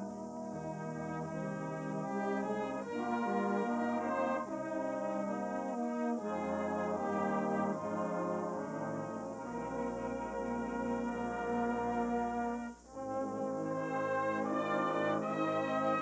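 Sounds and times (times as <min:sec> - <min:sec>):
brass band playing slow chords: 0:00.0 - 0:16.0.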